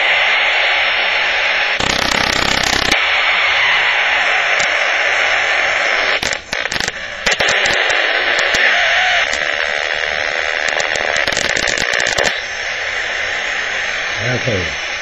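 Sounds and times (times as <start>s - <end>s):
detector alarm hiss with crackles: 0.0s - 15.0s.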